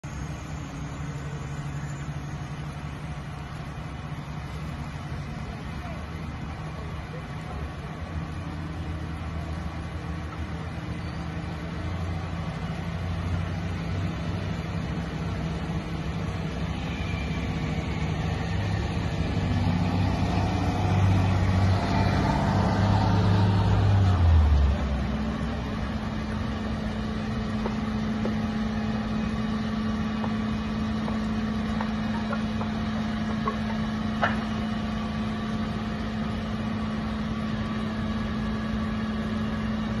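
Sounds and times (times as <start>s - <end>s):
truck engine passing: 0.0s - 40.0s.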